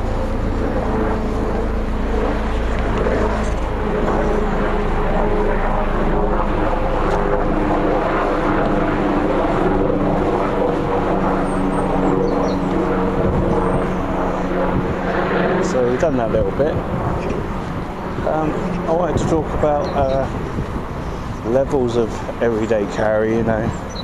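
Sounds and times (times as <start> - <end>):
engine drone: 0.0 - 24.0
outdoor noise: 0.0 - 24.0.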